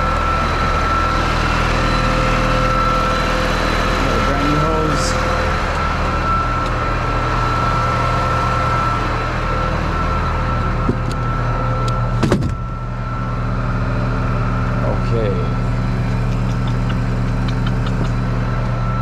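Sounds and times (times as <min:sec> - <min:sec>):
thin steady whine: 0:00.0 - 0:19.0
truck engine running: 0:00.0 - 0:19.0.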